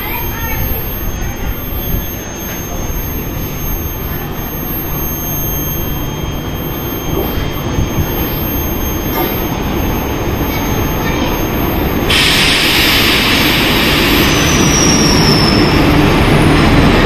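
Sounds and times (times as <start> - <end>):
electric train rumble and hiss: 0.0 - 17.0.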